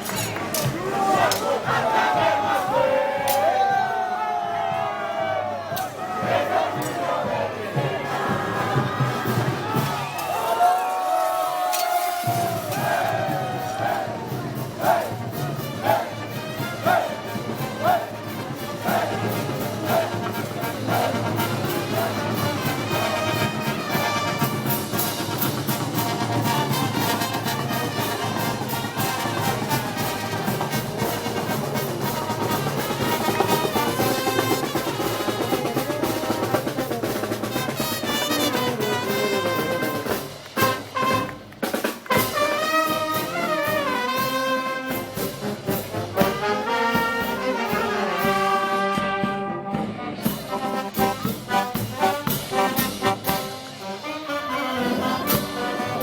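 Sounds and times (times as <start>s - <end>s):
brass band playing: 0.0s - 56.0s
percussion: 0.0s - 56.0s.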